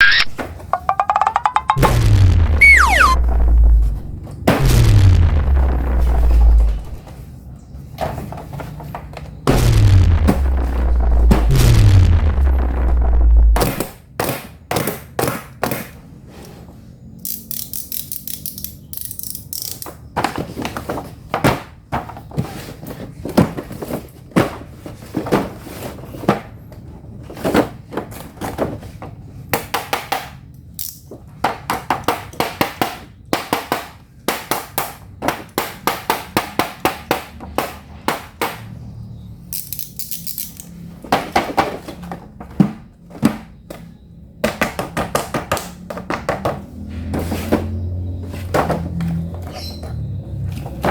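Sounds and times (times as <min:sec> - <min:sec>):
plastic toys and packaging clacking: 0:00.0 - 0:01.8, 0:06.5 - 0:09.5, 0:13.8 - 0:38.8, 0:39.5 - 0:50.9.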